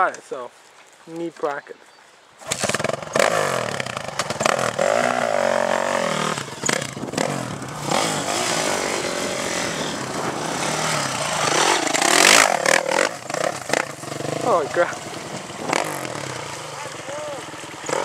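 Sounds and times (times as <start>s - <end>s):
dirt bike engine revving: 2.4s - 18.0s.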